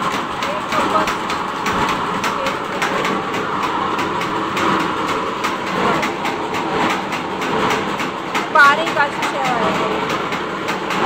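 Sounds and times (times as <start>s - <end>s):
extruding machine clattering: 0.0s - 11.0s.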